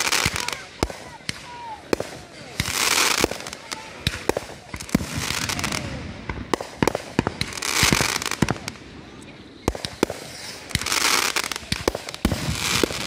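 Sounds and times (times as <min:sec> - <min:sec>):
crackling hiss of fireworks: 0:00.0 - 0:13.0
fireworks bursting with sharp bangs: 0:00.0 - 0:13.0.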